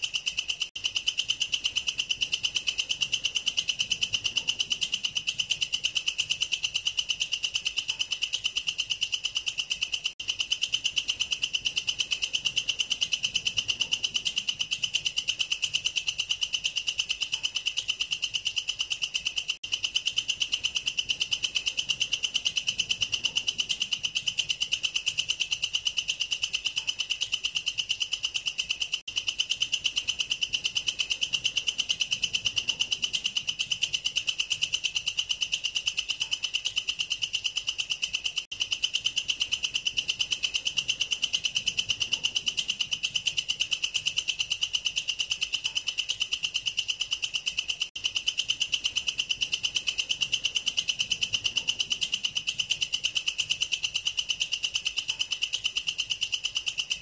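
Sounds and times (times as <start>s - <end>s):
katydid trilling: 0.0s - 57.0s.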